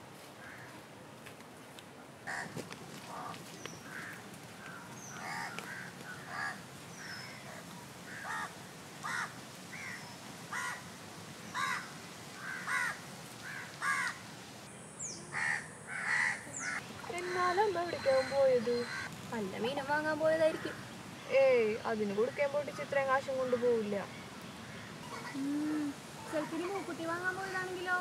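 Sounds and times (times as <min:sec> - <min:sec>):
harsh bird calls: 0:03.1 - 0:10.9, 0:11.5 - 0:28.0.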